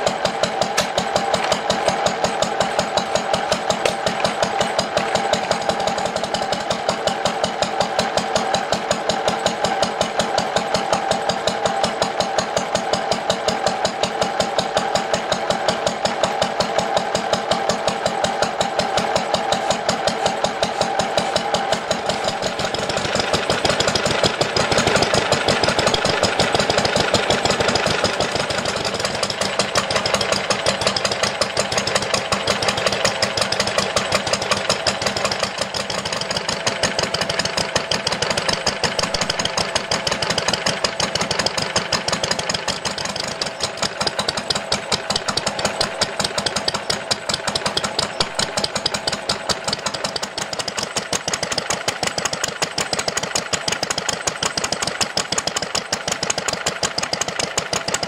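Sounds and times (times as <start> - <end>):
other old stationary engines: 0.0 - 58.0
stationary engine running: 0.0 - 58.0.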